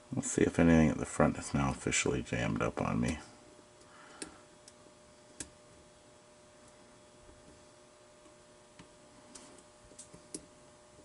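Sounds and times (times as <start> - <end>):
quiet hum: 0.0 - 11.0.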